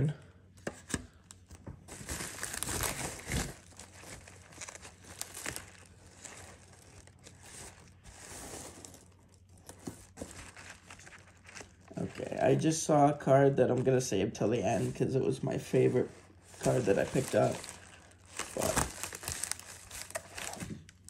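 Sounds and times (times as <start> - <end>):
packing material crinkling: 0.8 - 12.7, 15.7 - 21.0.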